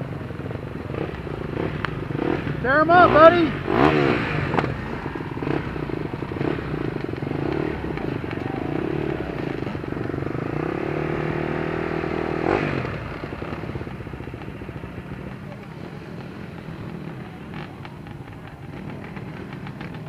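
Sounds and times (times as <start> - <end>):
dirt bike engine at low revs: 0.0 - 20.0.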